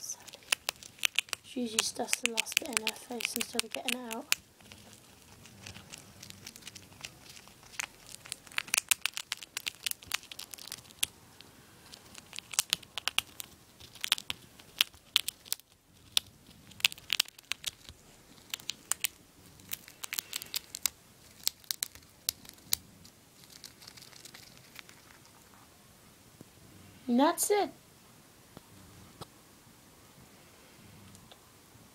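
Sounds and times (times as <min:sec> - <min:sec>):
hamster gnawing peanut shell: 0:00.0 - 0:25.6.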